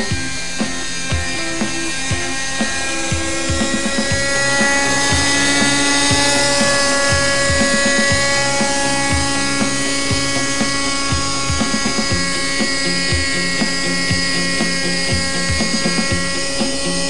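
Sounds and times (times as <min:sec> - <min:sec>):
model helicopter engine whine: 0:00.0 - 0:17.0.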